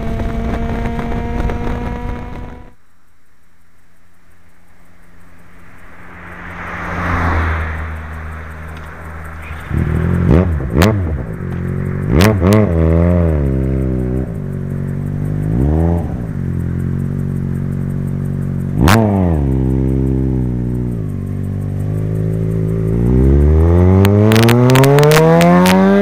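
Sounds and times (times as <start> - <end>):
motorcycle engine revving: 0.0 - 2.8, 4.8 - 26.0.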